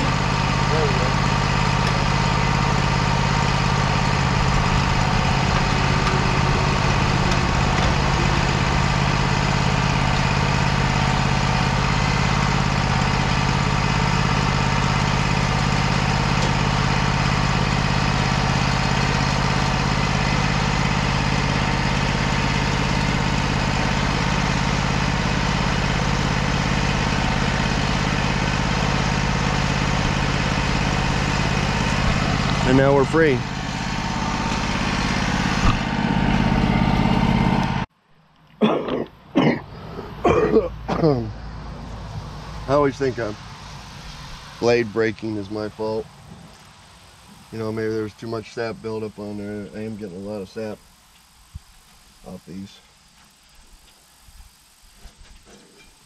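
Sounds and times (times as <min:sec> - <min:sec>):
engine idling: 0:00.0 - 0:37.9, 0:38.9 - 0:56.0.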